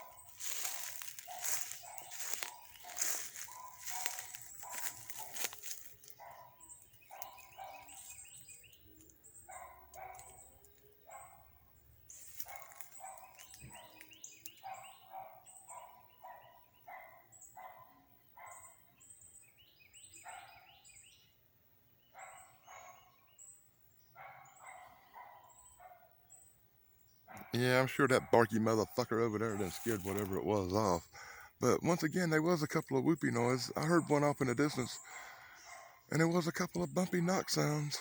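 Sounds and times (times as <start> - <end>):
faint dogs barking: 0.0 - 19.3, 19.9 - 21.4, 22.0 - 26.6, 27.2 - 38.0.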